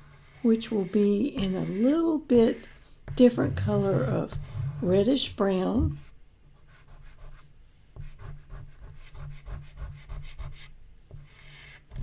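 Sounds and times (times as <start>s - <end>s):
chalk pastel rubbing on paper: 0.0s - 5.2s, 5.9s - 12.0s.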